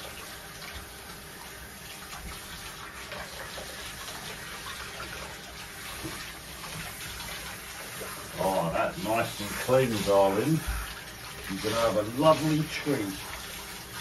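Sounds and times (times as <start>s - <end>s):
shower water spraying: 0.0s - 14.0s
water splashing into bath: 0.0s - 14.0s.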